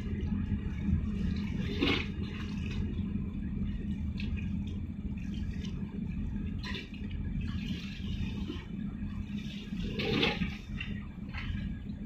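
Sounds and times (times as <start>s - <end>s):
ship engine rumble: 0.0s - 12.0s
water sloshing: 0.5s - 12.0s.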